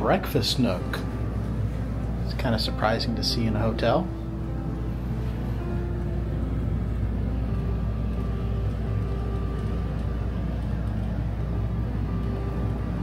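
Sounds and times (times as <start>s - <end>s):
room noise rumble and hum: 0.0s - 13.0s.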